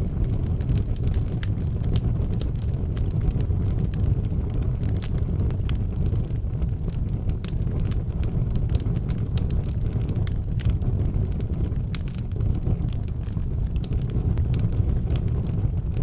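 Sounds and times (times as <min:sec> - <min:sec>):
low rumble of flame: 0:00.0 - 0:16.0
wood fire crackling and popping: 0:00.0 - 0:16.0.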